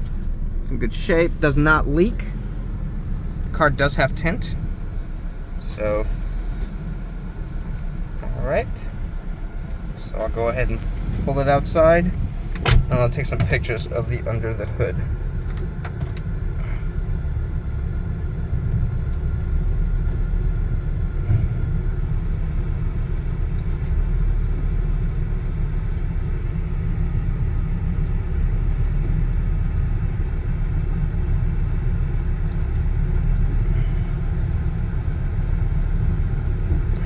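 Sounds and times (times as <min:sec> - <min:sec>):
car engine low rumble: 0:00.0 - 0:37.0.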